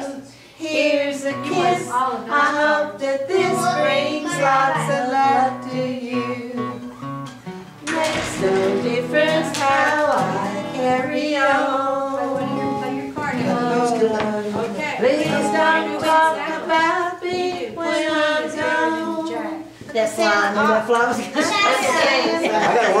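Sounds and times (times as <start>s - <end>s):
group of people singing: 0.0s - 7.0s, 7.9s - 23.0s.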